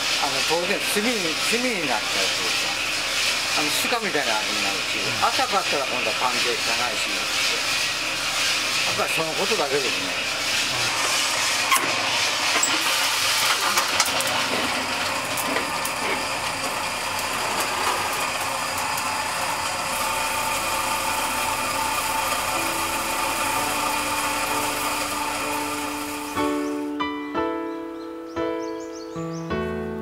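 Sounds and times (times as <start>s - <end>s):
coffee roaster rushing: 0.0s - 27.0s.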